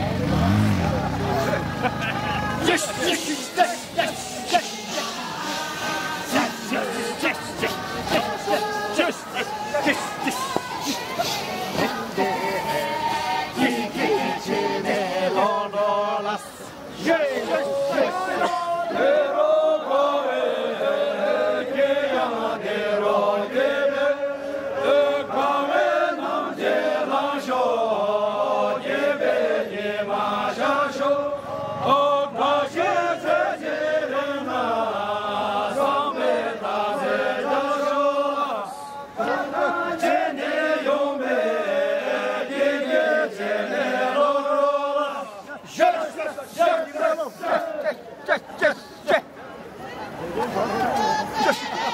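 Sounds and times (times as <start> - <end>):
men singing in unison: 0.2 - 48.8.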